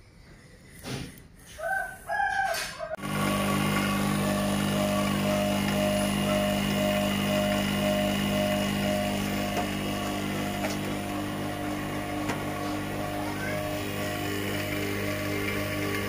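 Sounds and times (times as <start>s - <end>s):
vacuum pump motor hum: 3.0s - 16.0s.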